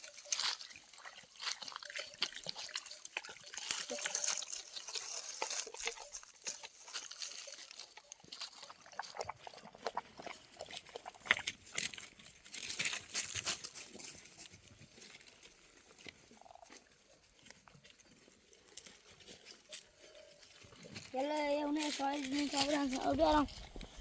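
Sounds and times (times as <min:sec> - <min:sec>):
livestock moving: 0:00.0 - 0:24.0.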